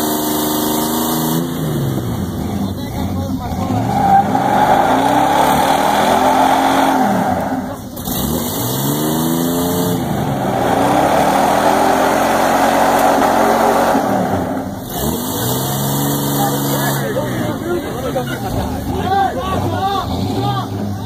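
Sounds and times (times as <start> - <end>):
truck engines revving hard: 0.0 - 21.0
tyres spinning on pavement: 1.9 - 21.0.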